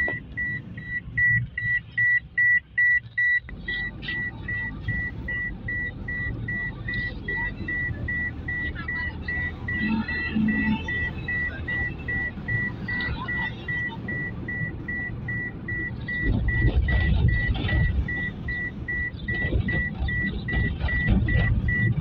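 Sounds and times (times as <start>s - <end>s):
high electronic beeping: 0.0s - 22.0s
vehicle engine and road rumble: 0.0s - 22.0s.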